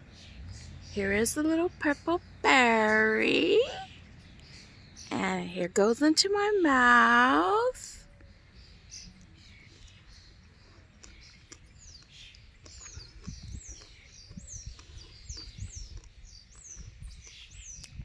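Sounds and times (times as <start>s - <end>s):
small bird chirping: 0.0s - 6.5s, 8.0s - 18.0s.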